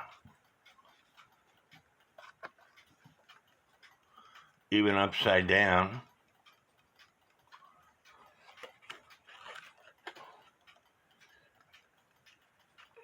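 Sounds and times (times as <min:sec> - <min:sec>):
faint clock ticking: 0:00.0 - 0:13.0.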